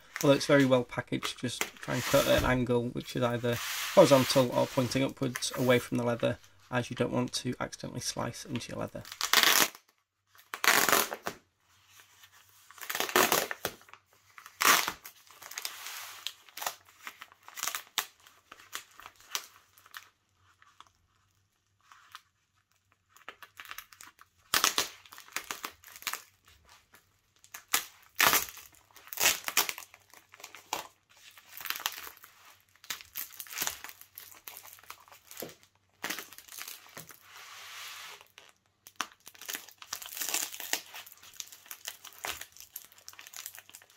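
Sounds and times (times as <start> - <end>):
plastic wrapping crinkling and tearing: 0.0 - 6.6, 8.3 - 37.3, 38.1 - 43.9.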